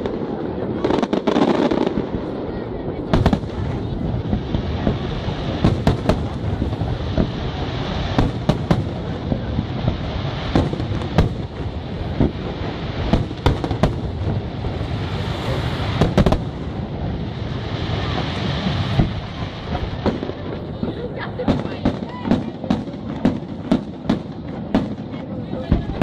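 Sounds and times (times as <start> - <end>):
fireworks bangs: 0.0 - 26.0
fireworks rumble and crackle: 0.0 - 26.0.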